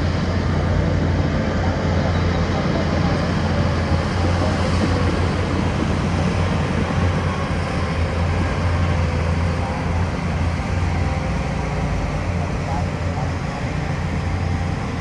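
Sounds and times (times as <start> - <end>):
diesel engine of heavy machinery: 0.0 - 15.0.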